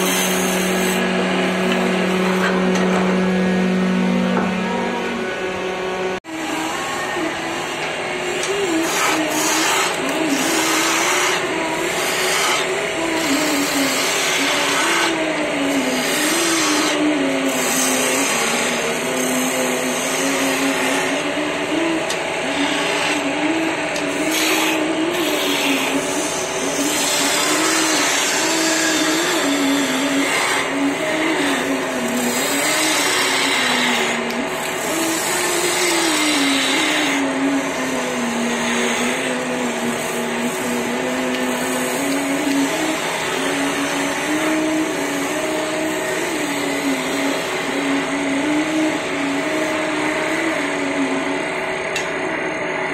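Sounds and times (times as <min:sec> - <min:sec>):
gouge cutting spinning wood: 0:00.0 - 0:04.9, 0:07.7 - 0:51.2
lathe motor hum: 0:00.0 - 0:52.9.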